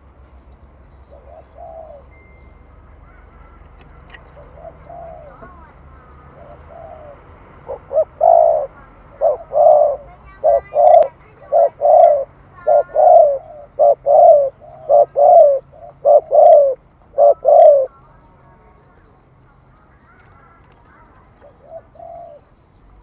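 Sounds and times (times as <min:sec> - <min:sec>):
dove cooing: 0:01.0 - 0:18.2, 0:19.7 - 0:23.0.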